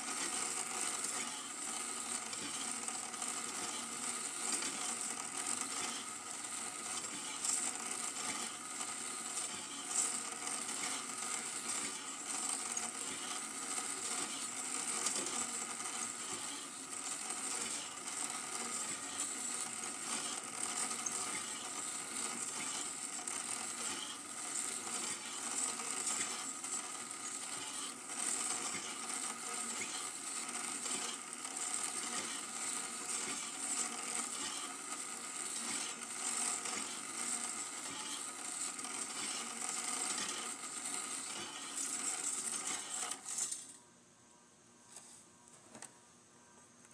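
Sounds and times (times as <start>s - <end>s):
film projector ticking: 0.0s - 43.7s.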